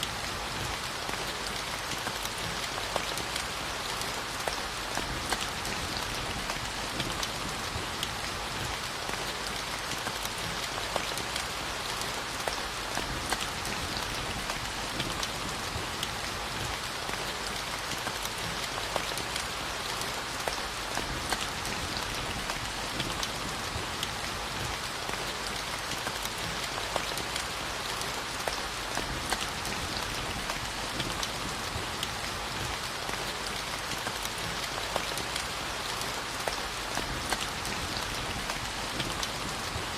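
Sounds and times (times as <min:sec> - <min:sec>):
rain falling: 0:00.0 - 0:39.9
raindrops pattering on surface: 0:00.0 - 0:39.9.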